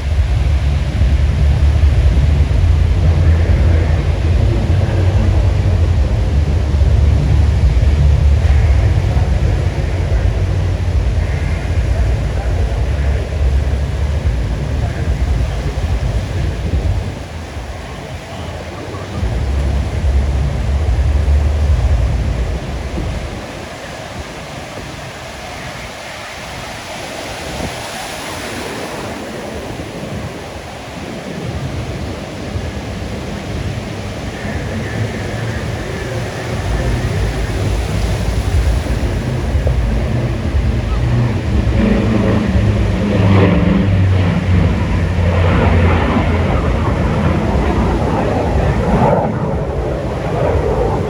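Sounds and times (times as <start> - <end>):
passing aircraft rumble: 0.0 - 51.0
surf: 0.0 - 51.0
wind: 0.0 - 51.0.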